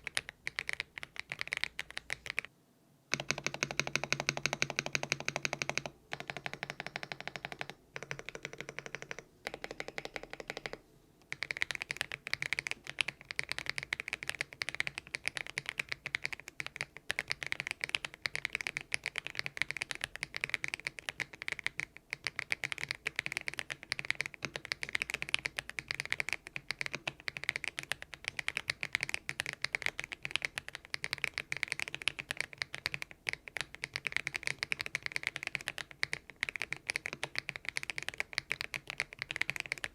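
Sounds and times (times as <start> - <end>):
typing on mechanical keyboard: 0.0 - 2.5, 3.1 - 39.9.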